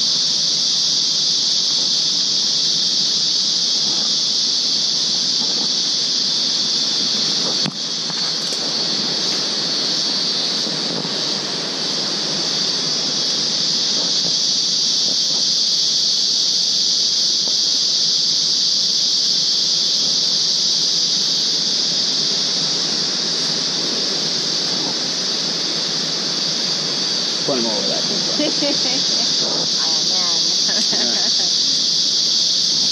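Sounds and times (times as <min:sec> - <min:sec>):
insects buzzing high-pitched: 0:00.0 - 0:32.9
low rushing hiss: 0:00.0 - 0:32.9.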